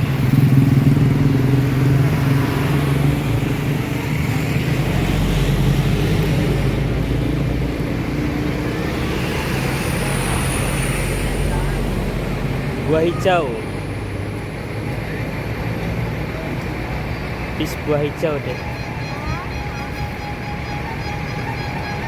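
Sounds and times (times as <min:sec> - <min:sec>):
traffic noise: 0:00.0 - 0:22.0
vehicle engine humming: 0:00.0 - 0:22.0.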